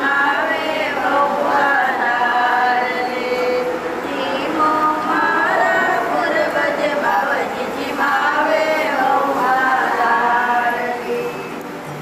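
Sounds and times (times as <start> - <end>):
voices singing long sliding notes: 0.0 - 12.0.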